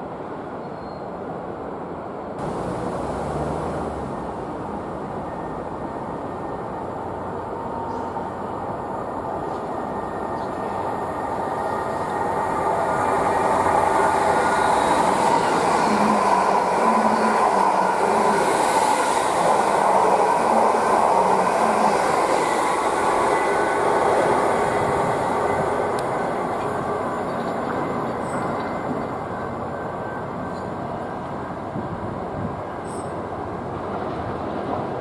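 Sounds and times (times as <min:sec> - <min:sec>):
train wheels rumbling on rail: 0:02.4 - 0:35.0.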